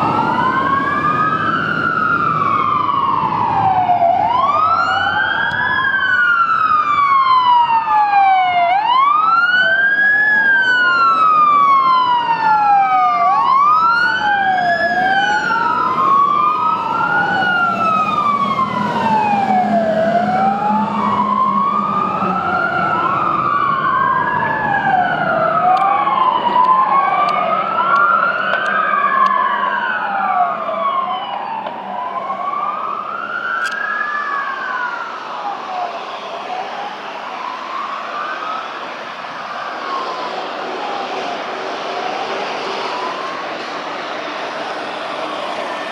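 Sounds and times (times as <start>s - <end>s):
fire engine sirens wailing: 0.0s - 45.9s
fire truck engine passing: 0.0s - 45.9s.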